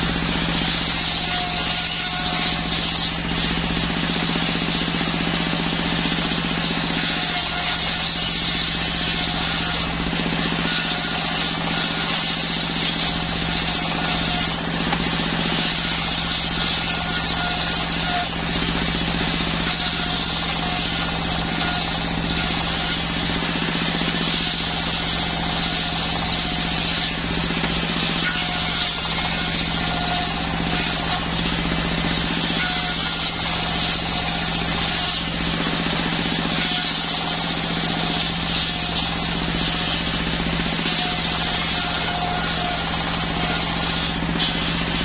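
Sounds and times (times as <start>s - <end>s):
circular saw running: 0.0s - 45.0s.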